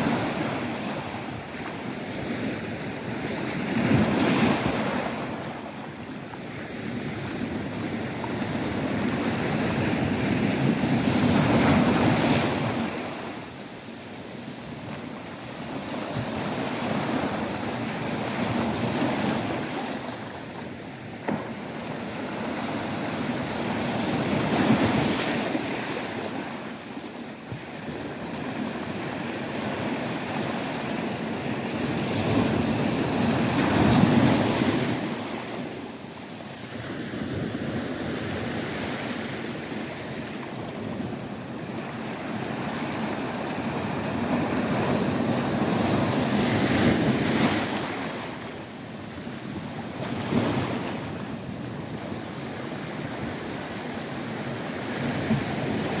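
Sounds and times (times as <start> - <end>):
wind on microphone: 0.0 - 26.8, 27.5 - 56.0
waves surging and breaking: 0.0 - 56.0.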